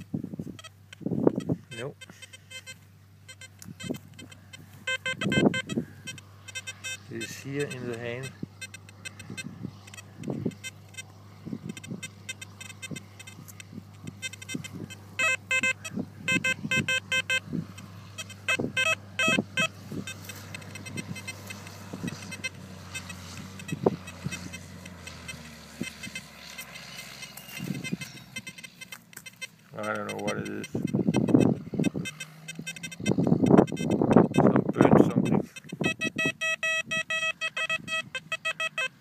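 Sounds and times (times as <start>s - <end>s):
metal detector pulsing beeps: 0.0s - 39.0s.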